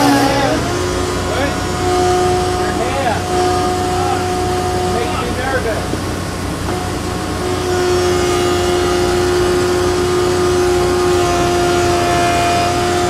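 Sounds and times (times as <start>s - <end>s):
jointer planing wood: 0.0s - 13.0s.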